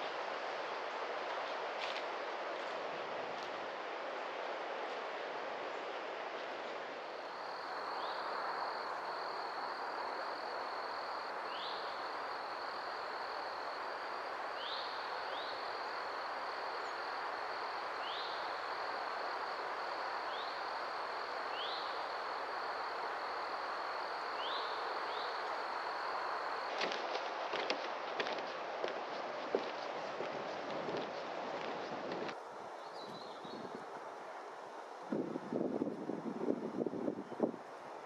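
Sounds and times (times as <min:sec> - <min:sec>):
rushing wind: 0:00.0 - 0:38.0.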